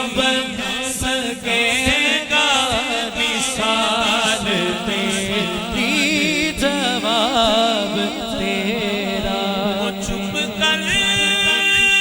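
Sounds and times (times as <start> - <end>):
man singing ornamented melody: 0.0 - 12.0.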